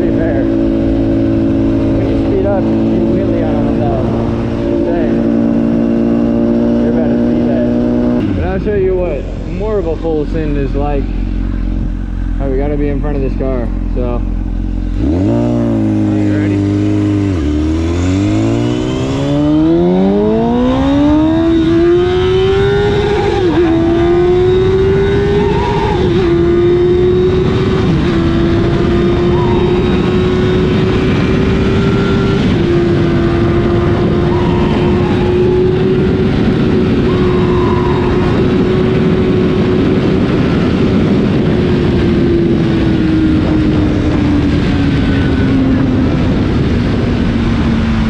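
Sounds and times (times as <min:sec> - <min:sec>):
motorcycle engine pulling hard: 0:00.0 - 0:48.0
wind rush on microphone: 0:00.0 - 0:48.0.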